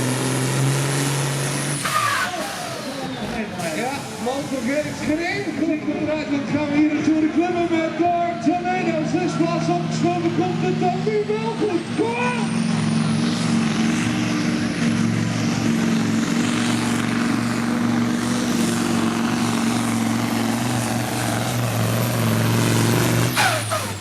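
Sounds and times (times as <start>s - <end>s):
diesel engine at full throttle: 0.0s - 24.0s.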